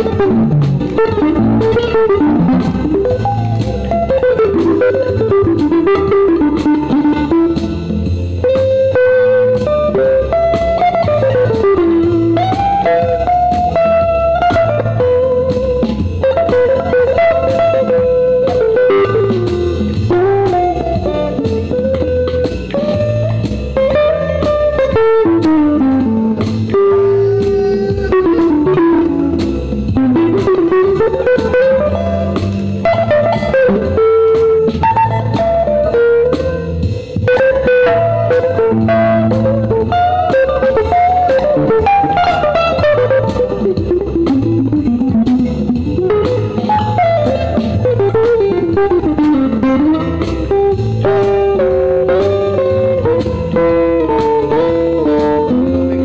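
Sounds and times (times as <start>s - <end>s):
bass: 0.0s - 56.0s
drums: 0.0s - 56.0s
electric guitar blues lead: 0.0s - 56.0s.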